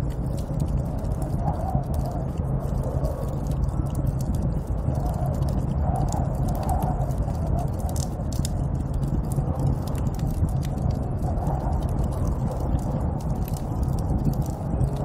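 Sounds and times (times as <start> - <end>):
low wind rumble: 0.0 - 15.0
small irregular crackles: 0.0 - 15.0.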